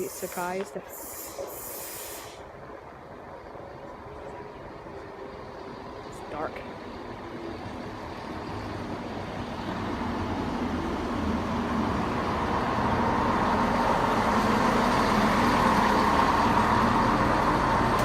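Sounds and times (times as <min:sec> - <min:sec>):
rumbling rail noise: 0:00.0 - 0:18.0
train engines running: 0:00.0 - 0:18.0.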